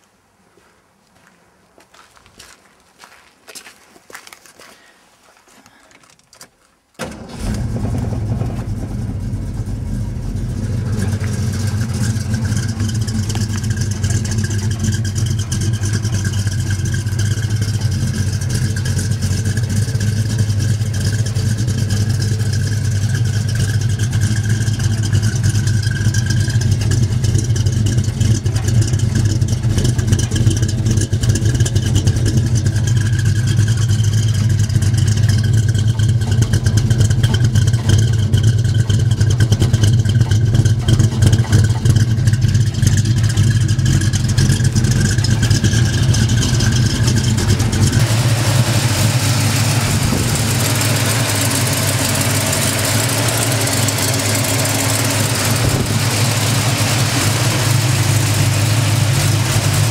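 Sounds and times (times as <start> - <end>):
car engine starting and idling: 7.0 - 59.9.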